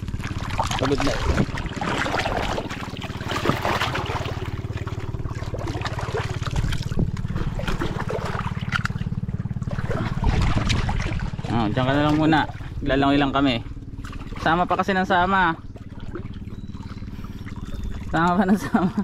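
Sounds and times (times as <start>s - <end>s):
seawater lapping and trickling: 0.0s - 19.0s
water splashes: 0.0s - 19.0s.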